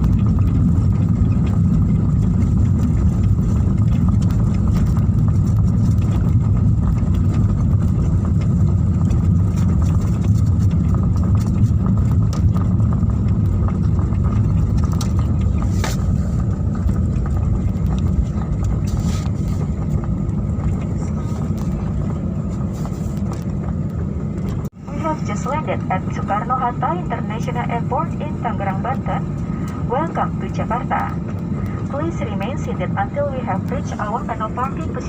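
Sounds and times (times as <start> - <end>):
faint whine: 0.0 - 35.0
jet engine rumble: 0.0 - 35.0.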